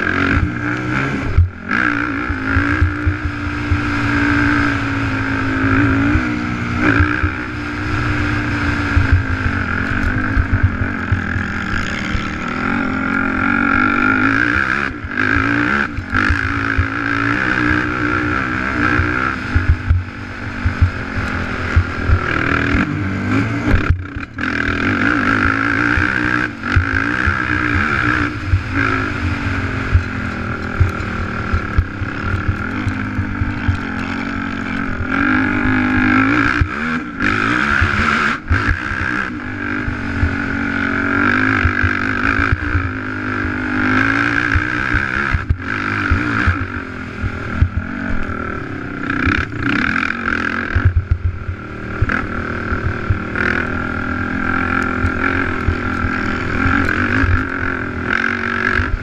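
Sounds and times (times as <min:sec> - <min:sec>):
racing atv engine revving: 0:00.0 - 0:59.0
low buffeting thumps: 0:00.3 - 0:24.4, 0:25.3 - 0:37.2, 0:44.4 - 0:59.0.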